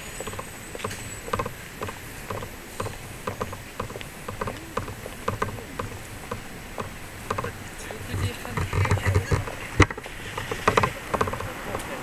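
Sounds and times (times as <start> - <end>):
footsteps on hard pavement: 0.0 - 12.0.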